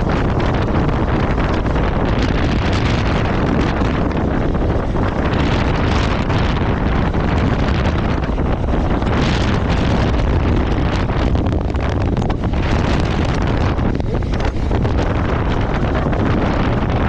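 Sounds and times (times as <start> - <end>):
road and vehicle noise: 0.0 - 17.0
wind buffeting microphone: 0.0 - 17.0.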